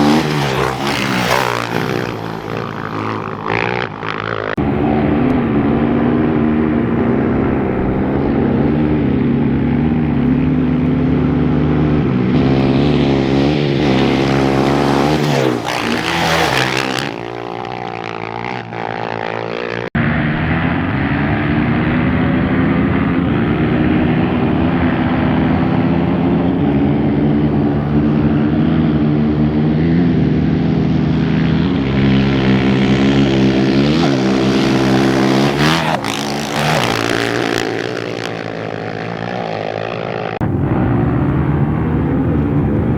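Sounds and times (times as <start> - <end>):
off-road motorcycle engines passing: 0.0 - 42.9.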